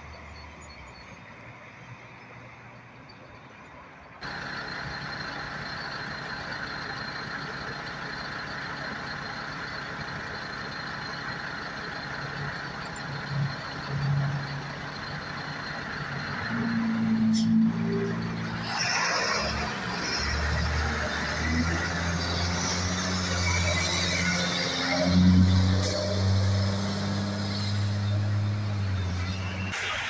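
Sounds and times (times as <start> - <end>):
trucks passing on road: 0.0 - 30.0.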